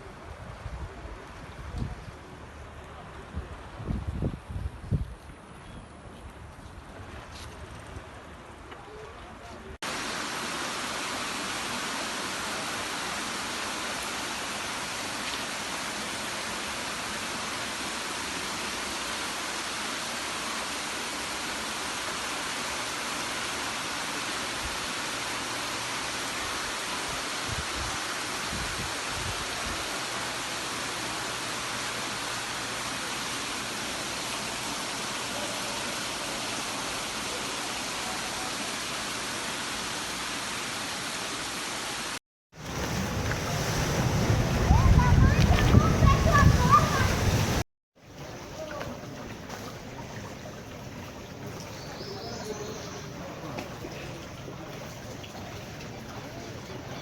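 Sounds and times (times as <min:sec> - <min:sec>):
rushing floodwater: 0:05.2 - 0:57.0.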